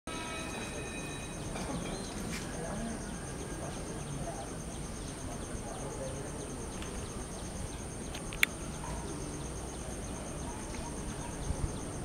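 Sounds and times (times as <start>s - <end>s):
faint bird chirps: 0.1s - 12.0s
insects trilling: 0.1s - 12.0s.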